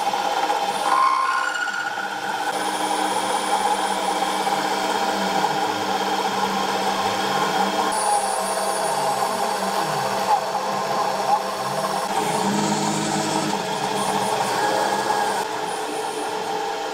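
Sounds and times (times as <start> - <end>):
milling machine cutting plastic: 0.0 - 16.9.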